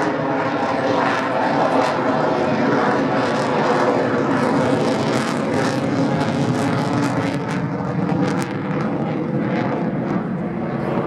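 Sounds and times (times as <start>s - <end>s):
fighter jet flying overhead: 0.0s - 11.0s.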